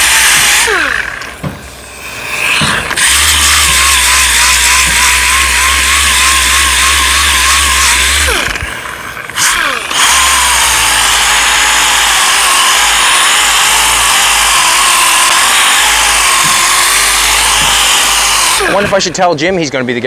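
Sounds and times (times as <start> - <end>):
orbital sander whining: 0.0 - 19.7.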